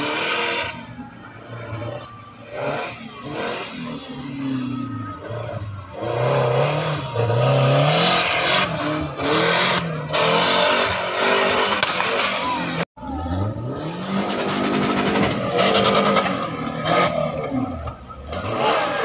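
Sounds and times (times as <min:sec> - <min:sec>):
off-road car engine revving: 0:00.0 - 0:19.0.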